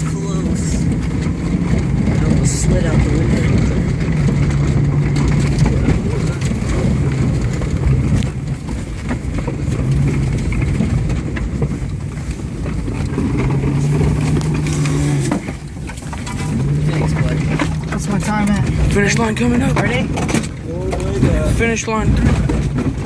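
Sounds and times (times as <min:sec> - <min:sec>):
car engine pulling hard: 0:00.0 - 0:23.0
car knocks and rattles: 0:00.0 - 0:23.0
heavy rumble: 0:00.0 - 0:23.0.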